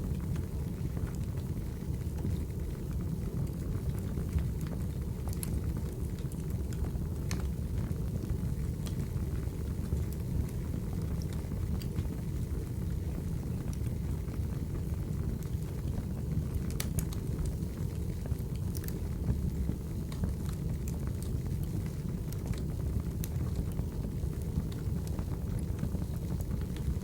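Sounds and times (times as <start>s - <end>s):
fire crackling and popping: 0.0s - 27.0s
flames rumbling: 0.0s - 27.0s.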